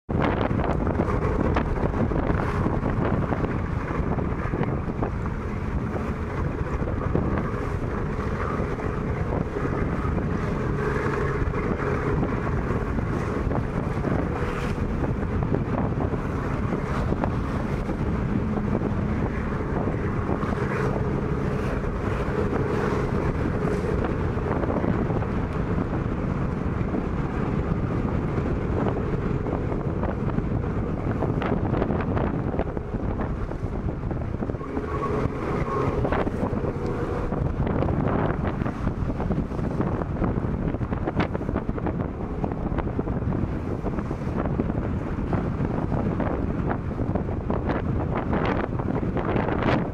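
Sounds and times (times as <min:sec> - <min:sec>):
rushing water from boat: 0:00.0 - 0:49.9
wind buffeting microphone: 0:00.0 - 0:49.9.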